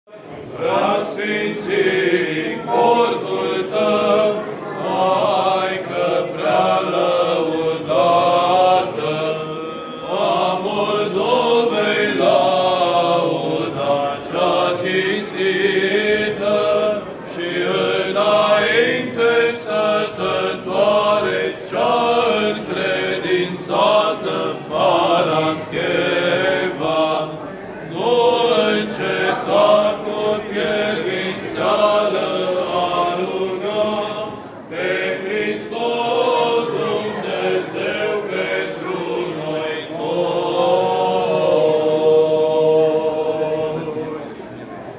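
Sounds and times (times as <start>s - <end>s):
male choir chanting: 0.1s - 44.8s.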